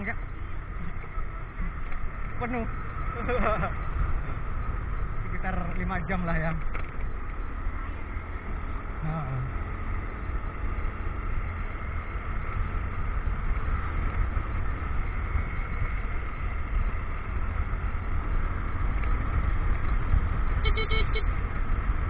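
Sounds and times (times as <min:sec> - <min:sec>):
motorcycle engine running: 0:00.0 - 0:22.0
wind rumbling on microphone: 0:00.0 - 0:22.0.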